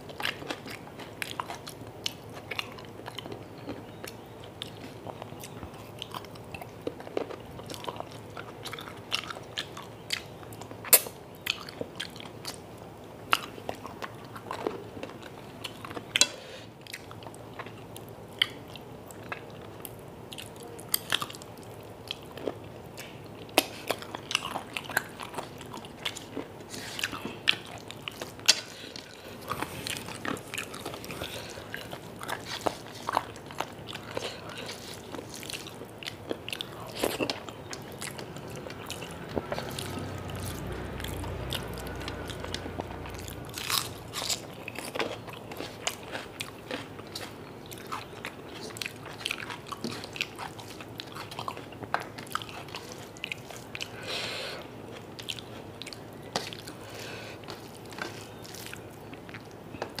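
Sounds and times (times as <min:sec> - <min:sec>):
chewing and crunching food: 0:00.0 - 1:00.0.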